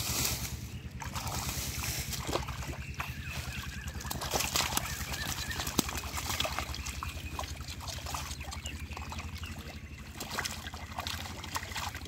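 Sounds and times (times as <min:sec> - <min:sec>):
catfish splashing in shallow water: 0:00.0 - 0:12.0.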